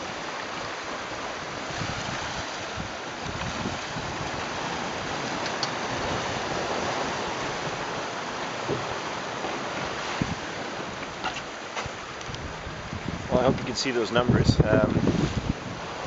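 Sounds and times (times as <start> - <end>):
water rushing: 0.0 - 16.0
wind: 0.0 - 16.0.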